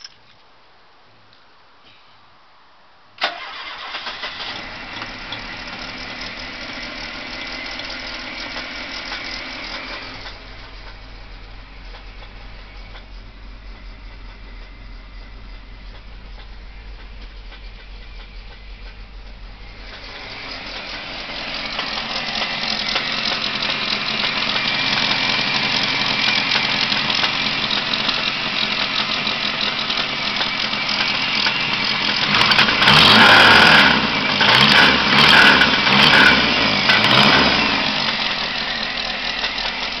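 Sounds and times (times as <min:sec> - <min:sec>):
car engine revving roughly: 0:03.5 - 0:13.2, 0:13.9 - 0:40.0.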